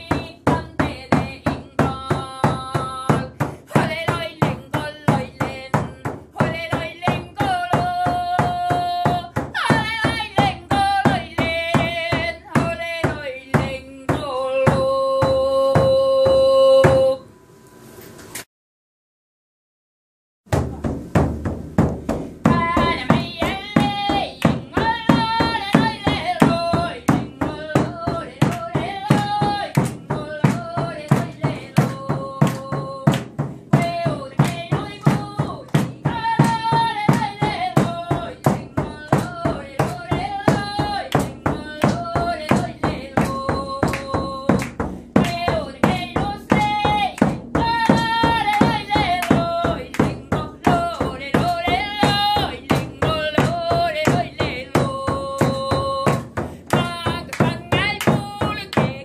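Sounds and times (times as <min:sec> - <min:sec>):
frame drum beat: 0:00.0 - 0:17.1, 0:20.5 - 0:59.0
woman singing: 0:00.0 - 0:17.3, 0:22.4 - 0:59.0.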